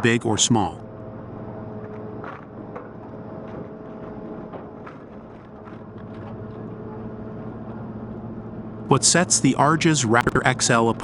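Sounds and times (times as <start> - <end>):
wood chipper humming: 0.0 - 11.0.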